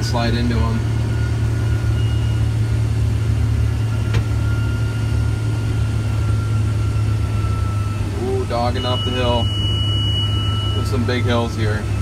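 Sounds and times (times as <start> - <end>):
combine engine drone: 0.0 - 12.0.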